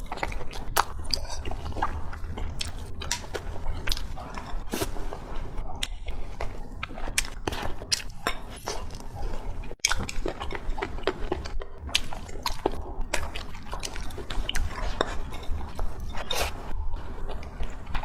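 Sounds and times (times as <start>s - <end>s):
wet chewing and smacking: 0.0s - 5.0s, 5.7s - 18.0s.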